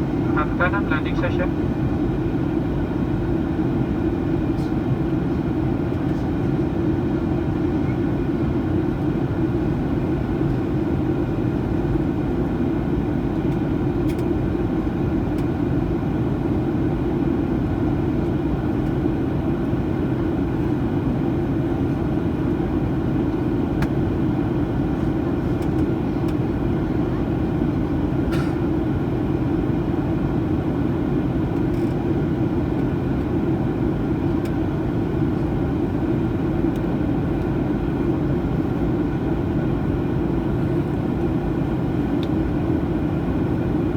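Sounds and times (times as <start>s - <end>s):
aircraft cabin engine rumble: 0.0s - 43.9s.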